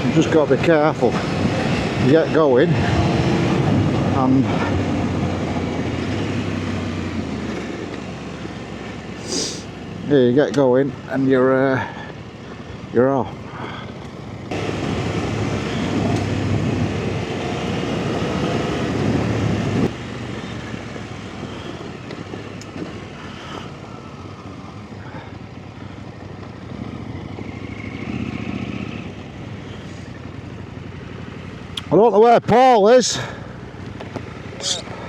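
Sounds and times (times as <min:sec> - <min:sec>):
off-road motorcycle engine: 0:00.0 - 0:35.0.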